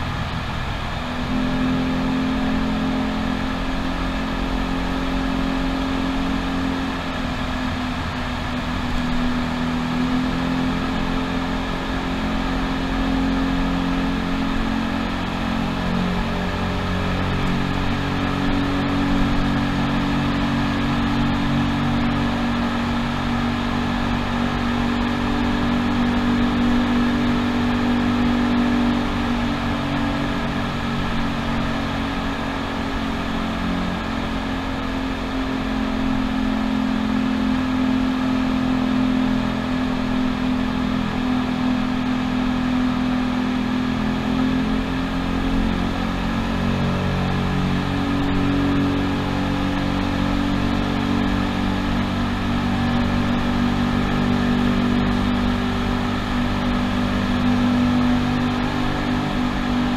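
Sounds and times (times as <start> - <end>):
scooter engine cruising: 0.0 - 59.9
wind and tyre noise: 0.0 - 59.9.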